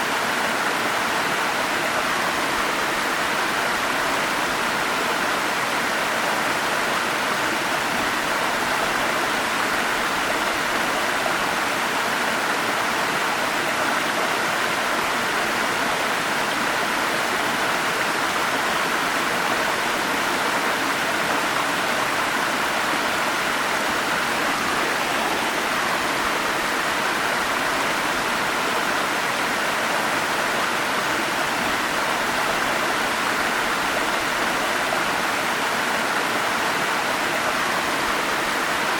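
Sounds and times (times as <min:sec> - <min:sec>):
stream rushing over small falls: 0:00.0 - 0:38.9.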